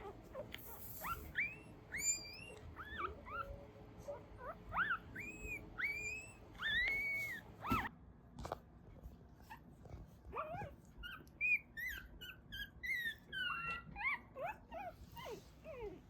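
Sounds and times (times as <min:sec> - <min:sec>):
puppies squeaking and whimpering: 0:00.0 - 0:07.9, 0:10.3 - 0:16.0.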